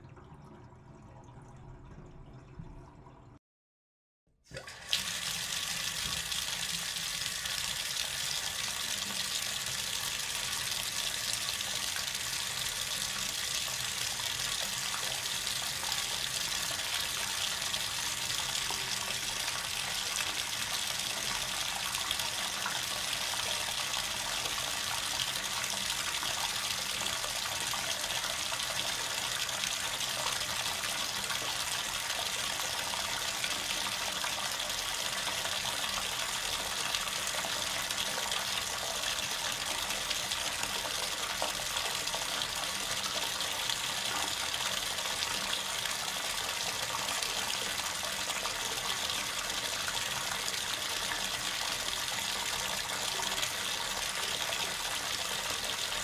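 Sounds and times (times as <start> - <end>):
bathtub faucet running: 4.5 - 56.0.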